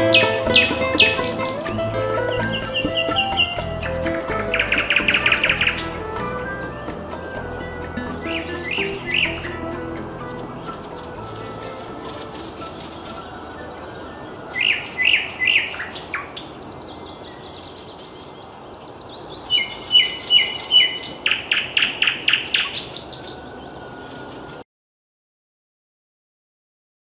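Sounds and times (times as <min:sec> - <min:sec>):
nightingale singing: 0:00.0 - 0:24.6.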